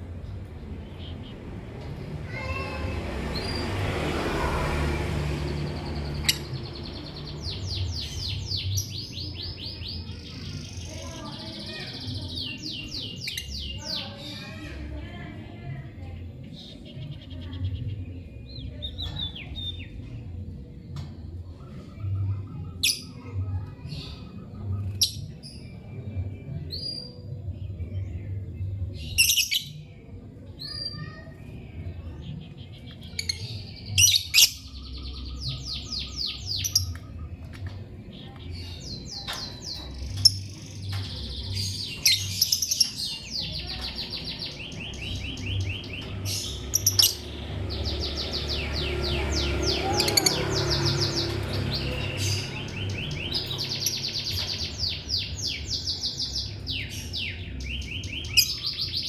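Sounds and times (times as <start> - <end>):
lovebirds chirping: 0.0 - 29.9, 30.6 - 59.0.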